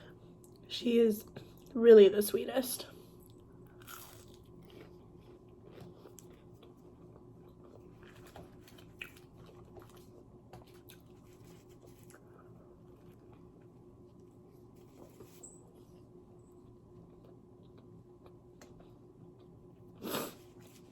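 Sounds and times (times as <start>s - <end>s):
chewing with soft crunches: 0.0s - 1.8s, 2.9s - 20.9s
low steady hum: 0.0s - 20.9s.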